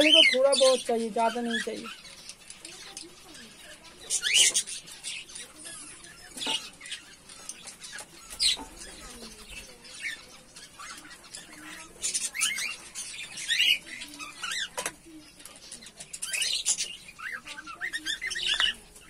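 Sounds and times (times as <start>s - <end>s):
cage birds chirping: 0.0s - 19.0s.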